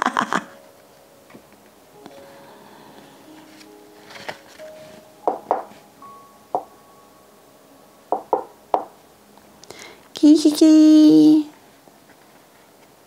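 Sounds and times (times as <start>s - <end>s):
faint held notes: 0.0s - 11.8s.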